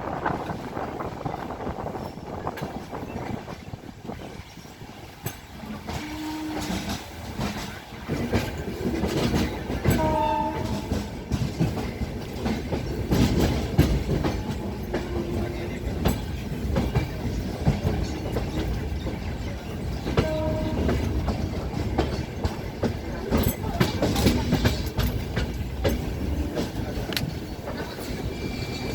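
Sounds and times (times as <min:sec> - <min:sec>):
train rumbling on track: 0:00.0 - 0:28.9
wheels clacking over rail joints: 0:00.2 - 0:28.9.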